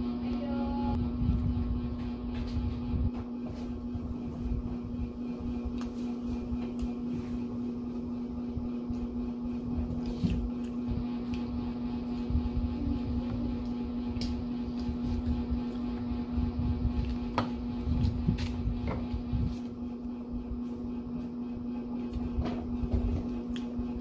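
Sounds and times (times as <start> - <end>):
electrical appliance hum: 0.0 - 24.0.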